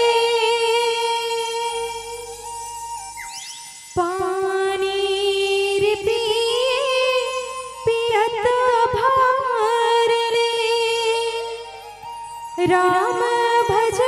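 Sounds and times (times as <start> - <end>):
harmonium: 0.0 - 14.0.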